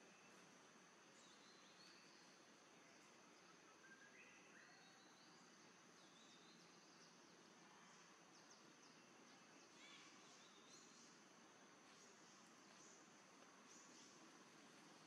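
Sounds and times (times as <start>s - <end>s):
insect hum: 0.0s - 15.0s.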